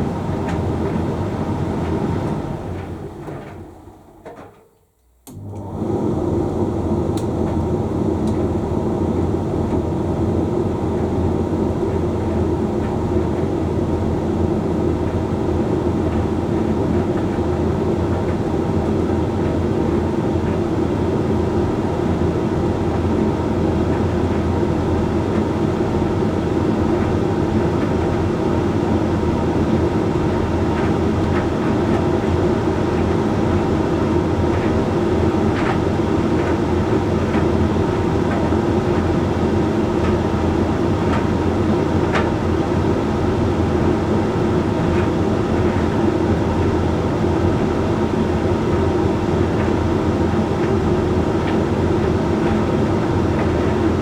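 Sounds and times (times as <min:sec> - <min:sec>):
tumble dryer humming: 0:05.3 - 0:54.0.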